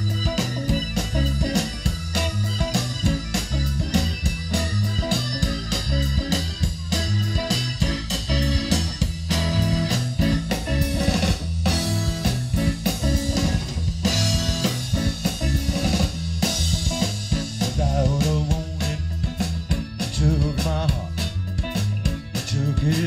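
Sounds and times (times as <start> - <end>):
bass guitar: 0.0 - 23.0
drum kit: 0.0 - 23.0
electric guitars: 0.0 - 23.0.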